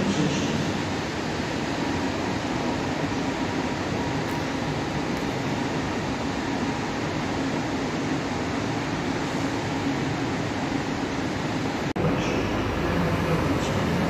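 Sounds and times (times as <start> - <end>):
electric trains humming: 0.0 - 14.0.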